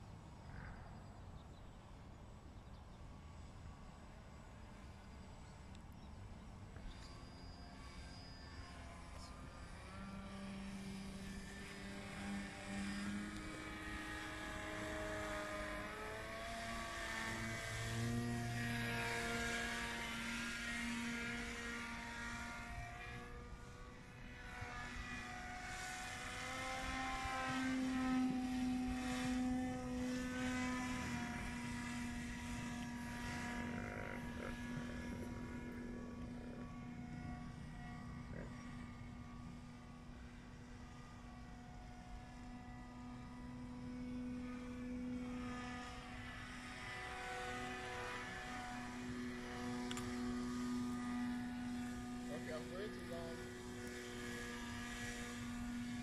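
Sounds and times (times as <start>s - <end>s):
paramotor propeller drone: 0.0s - 56.0s.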